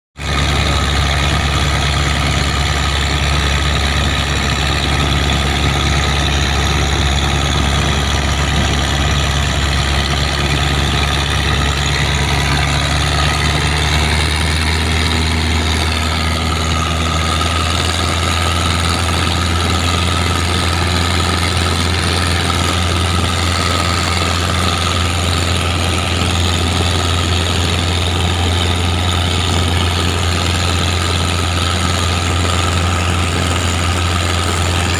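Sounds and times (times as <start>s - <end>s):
diesel boat engine droning: 0.2s - 34.9s.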